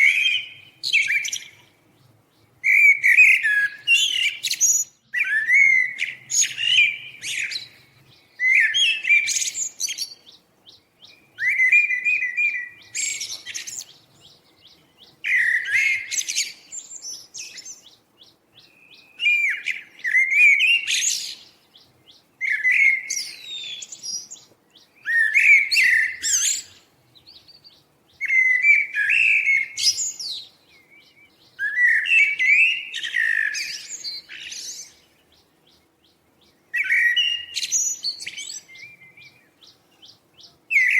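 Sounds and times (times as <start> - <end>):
songbird singing warbled song: 0.0 - 40.9.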